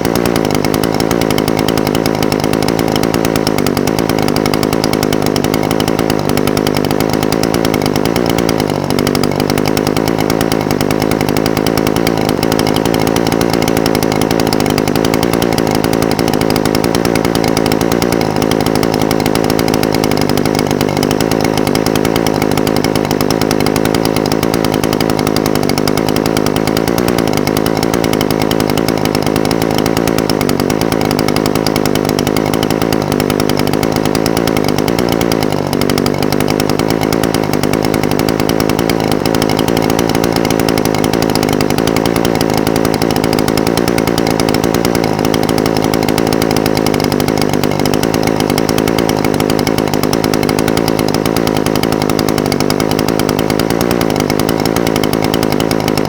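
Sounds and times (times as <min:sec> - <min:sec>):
brush cutter engine idling: 0:00.0 - 0:56.0.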